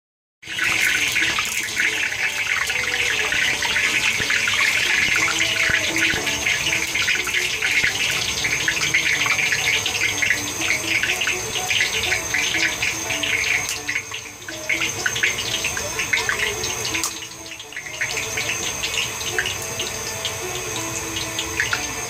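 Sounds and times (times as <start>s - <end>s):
cooker hissing and crackling: 0.4s - 22.0s.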